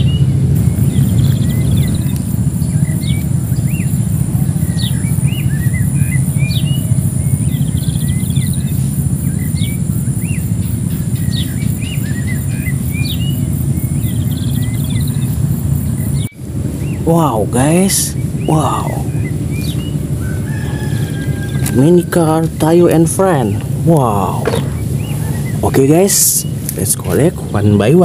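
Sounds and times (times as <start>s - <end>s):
birds chirping: 0.0s - 28.0s
low rumble: 0.0s - 28.0s.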